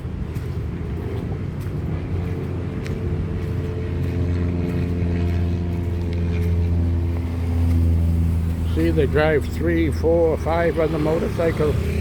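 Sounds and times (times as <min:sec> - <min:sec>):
motor vehicle engine running: 0:00.0 - 0:12.0.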